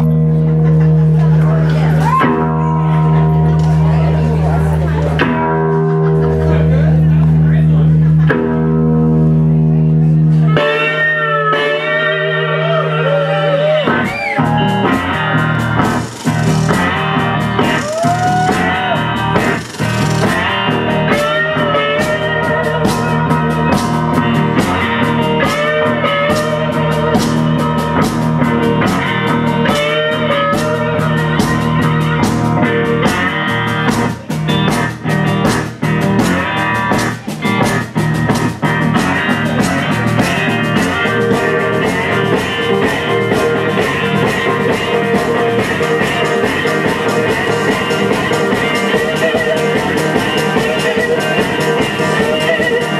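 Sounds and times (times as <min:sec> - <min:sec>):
blues-rock band playing: 0:00.0 - 0:52.9
electric guitar with bending notes: 0:00.0 - 0:52.9.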